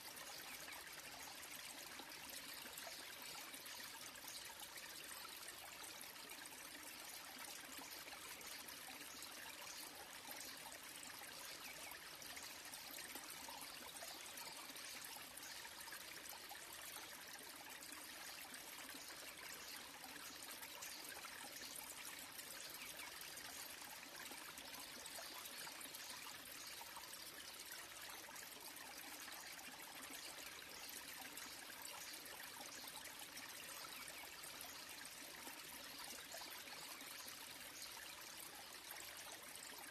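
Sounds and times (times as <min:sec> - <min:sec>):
small waterfall splashing into pool: 0:00.0 - 0:39.9.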